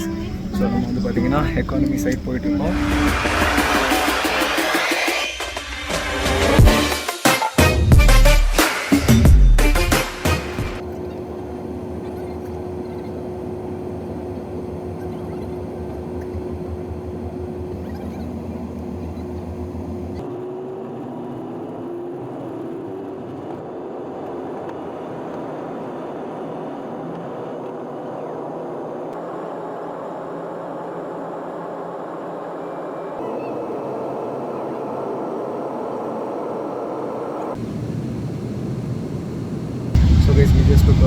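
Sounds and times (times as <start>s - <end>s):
airliner cabin engine noise: 0.0s - 6.9s, 9.7s - 41.0s.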